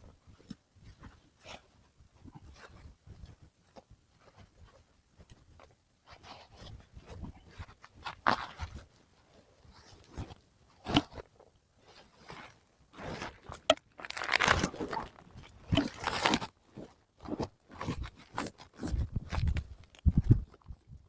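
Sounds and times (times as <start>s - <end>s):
crunches and scrapes: 0.4s - 21.0s.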